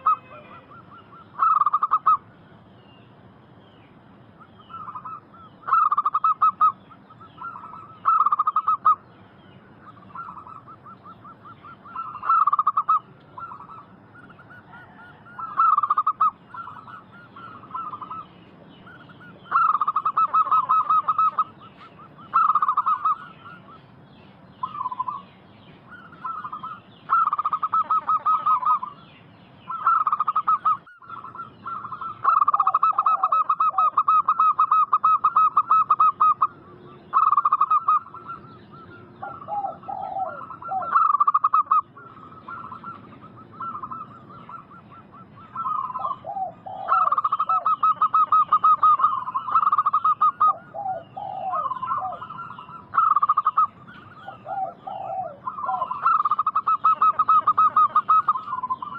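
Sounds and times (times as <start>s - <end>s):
doves cooing: 0.0s - 58.9s.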